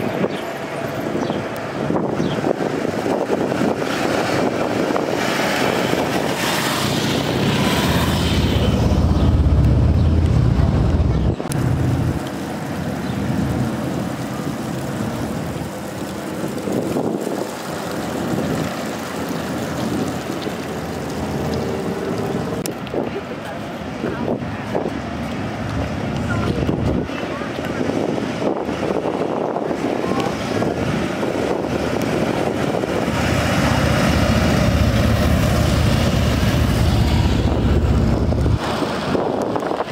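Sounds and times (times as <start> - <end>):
motorcycle engines droning: 0.0 - 17.0, 17.6 - 27.8, 29.4 - 39.9
street noise: 0.0 - 39.9.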